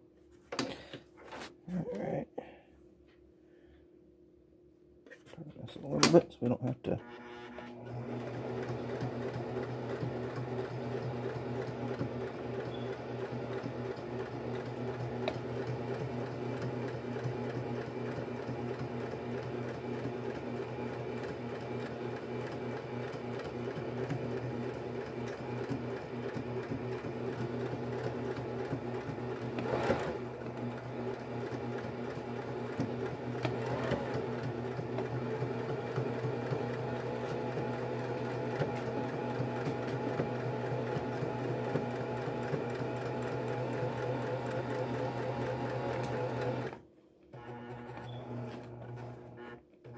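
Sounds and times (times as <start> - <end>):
sewing machine running: 7.0 - 49.9.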